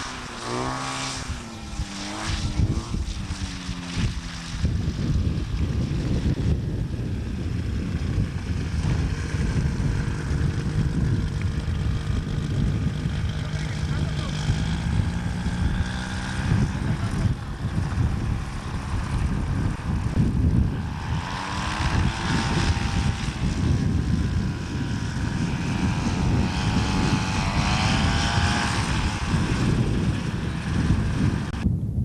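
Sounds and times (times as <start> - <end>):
model airplane propeller buzz: 0.0 - 31.7
steady low rumble: 0.0 - 32.0.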